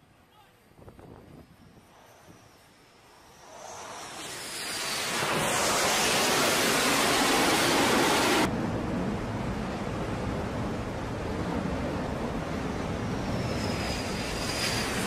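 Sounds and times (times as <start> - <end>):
wind and sea rushing: 0.7 - 15.0
jet engine roar: 1.1 - 15.0.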